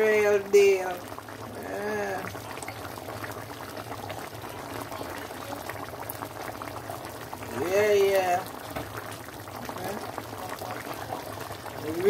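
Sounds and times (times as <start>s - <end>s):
curry sauce bubbling in a pan: 0.0s - 12.0s.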